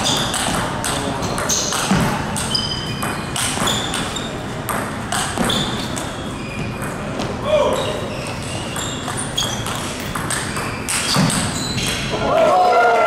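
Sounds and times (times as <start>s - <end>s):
table tennis ball hits: 0.0s - 7.4s, 8.7s - 12.2s.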